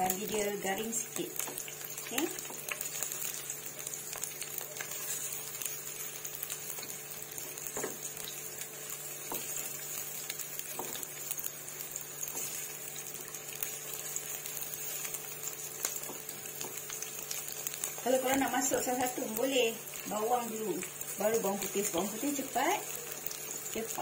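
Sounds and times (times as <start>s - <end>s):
garlic and onion sizzling in oil: 0.0s - 24.0s.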